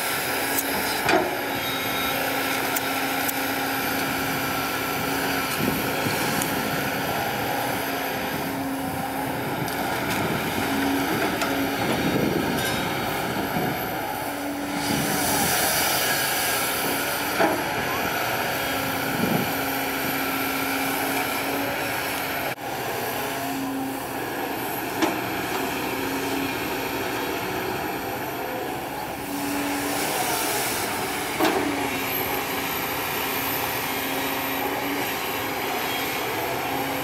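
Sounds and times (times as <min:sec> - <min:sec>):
excavator diesel engine under load: 0:00.0 - 0:37.0.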